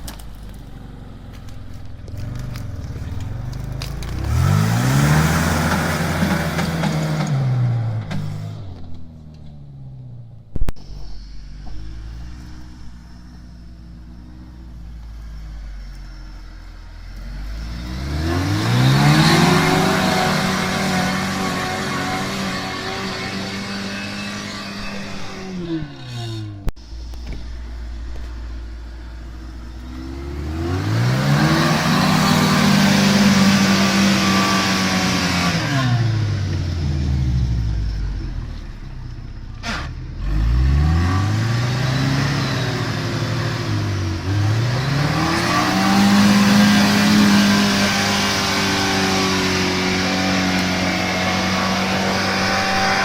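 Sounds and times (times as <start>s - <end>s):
engine revving: 0.0s - 53.0s.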